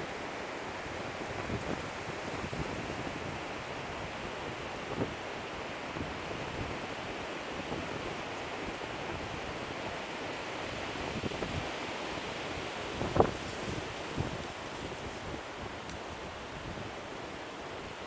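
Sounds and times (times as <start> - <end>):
wind rustling through reeds: 0.0 - 18.0.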